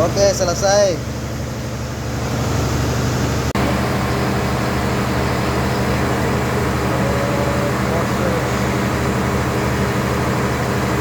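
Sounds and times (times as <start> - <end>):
low machine hum with tones: 0.0 - 11.0.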